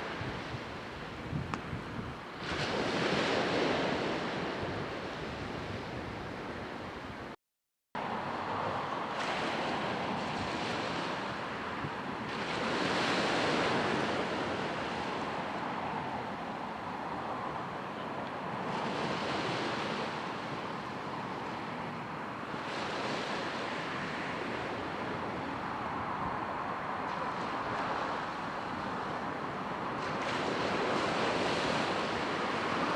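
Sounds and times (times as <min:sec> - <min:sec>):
sea waves washing onto shore: 0:00.0 - 0:07.0, 0:08.0 - 0:32.9
wind on microphone: 0:00.0 - 0:07.3, 0:08.0 - 0:32.9.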